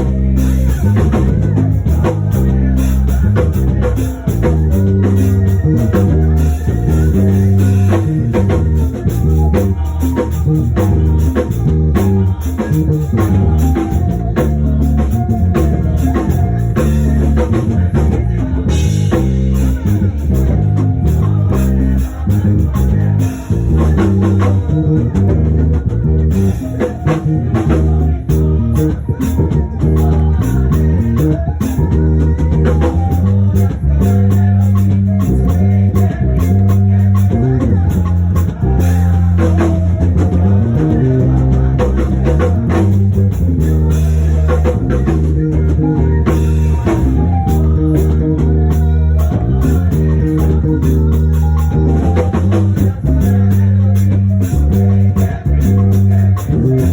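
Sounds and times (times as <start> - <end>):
drum kit: 0.0 - 56.9
guitar: 0.0 - 56.9
loud bass line: 0.0 - 56.9.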